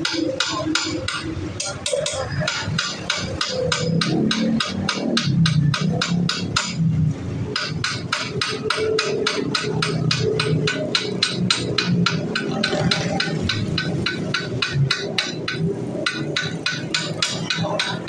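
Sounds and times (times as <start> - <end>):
hammer tapping on metal: 0.0 - 18.0.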